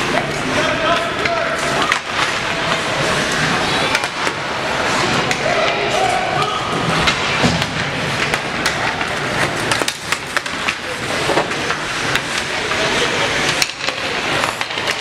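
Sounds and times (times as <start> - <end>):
hockey sticks clacking on puck: 0.0 - 6.1, 6.7 - 15.0
ice rink din: 0.0 - 15.0.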